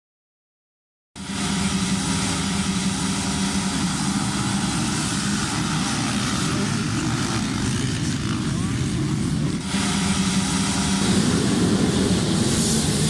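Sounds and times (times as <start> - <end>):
motocross engines revving: 1.2 - 13.0.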